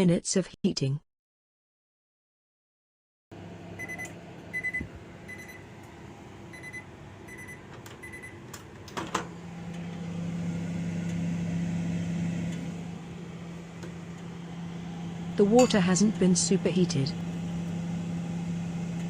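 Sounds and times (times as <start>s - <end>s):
low steady hum: 3.4s - 19.0s
microwave oven beeps: 3.4s - 19.0s.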